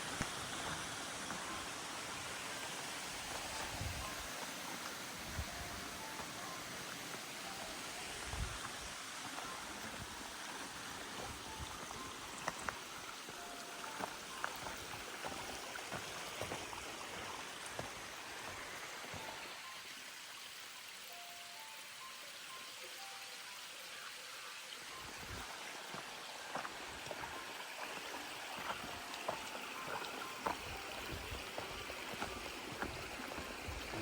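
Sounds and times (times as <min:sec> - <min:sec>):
stream flowing: 0:00.0 - 0:34.0.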